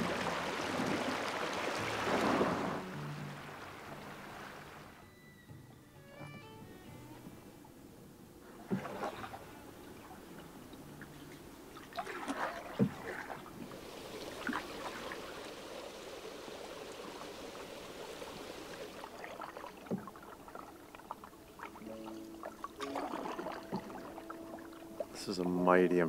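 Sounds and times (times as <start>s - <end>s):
canoe paddle splashing: 0.0s - 5.0s, 8.4s - 25.7s
steady wash of water: 0.0s - 5.0s, 8.5s - 25.7s.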